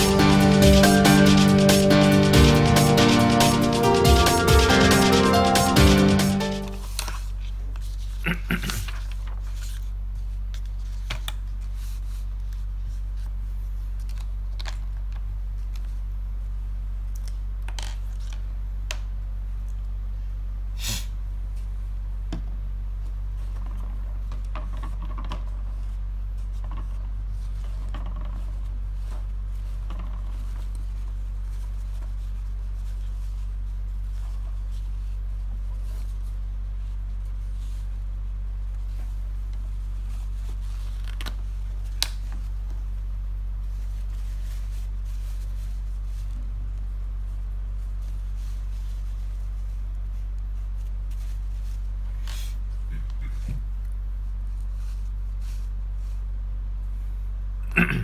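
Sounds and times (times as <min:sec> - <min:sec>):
paper rustling: 0:00.0 - 0:16.0, 0:23.3 - 0:56.3
low electrical hum: 0:00.0 - 0:58.0.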